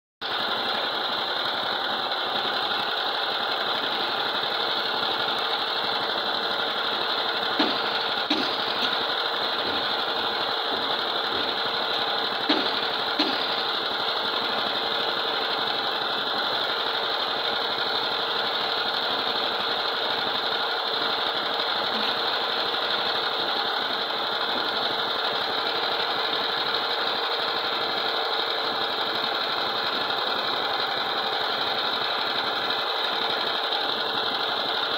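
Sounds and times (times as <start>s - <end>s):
concrete mixer running: 0.2s - 34.9s.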